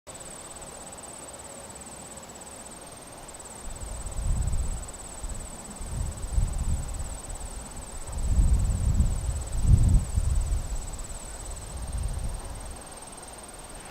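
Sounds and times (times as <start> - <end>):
crickets trilling: 0.1 - 13.9.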